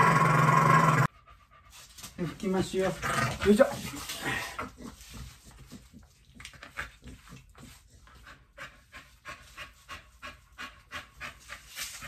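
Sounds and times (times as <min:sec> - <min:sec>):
dog panting: 0:01.1 - 0:12.0.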